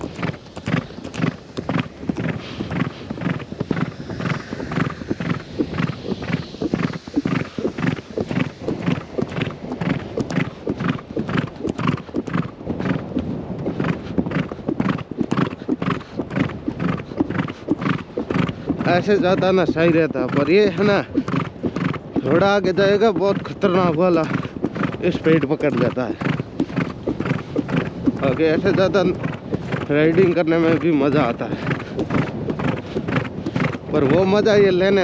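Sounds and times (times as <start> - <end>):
horse hooves on sand: 0.0 - 35.0.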